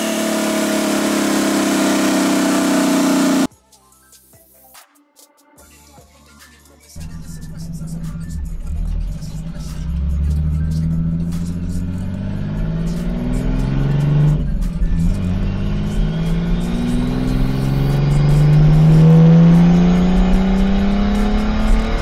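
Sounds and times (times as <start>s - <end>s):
car engine accelerating: 0.0s - 3.5s, 7.0s - 22.0s.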